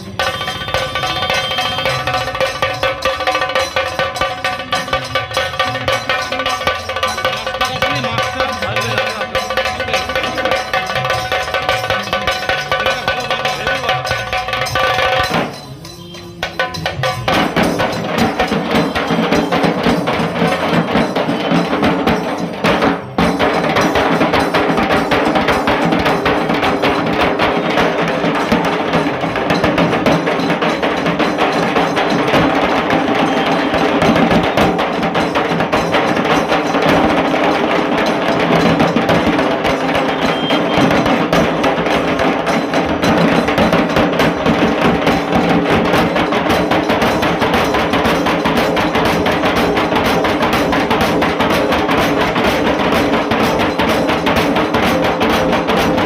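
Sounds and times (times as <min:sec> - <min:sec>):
drum ensemble playing: 0:00.0 - 0:56.0.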